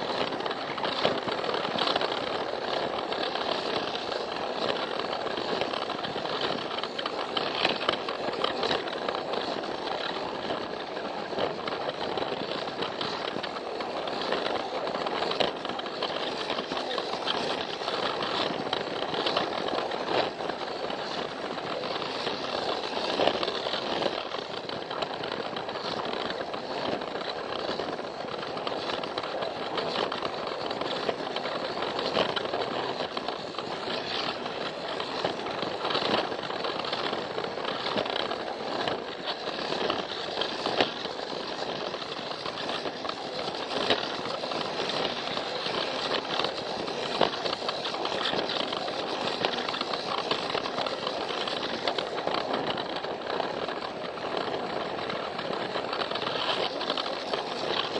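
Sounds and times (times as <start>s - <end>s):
toy train motor whirring: 0.0s - 57.9s
wheels clicking and rattling on track: 0.0s - 57.9s.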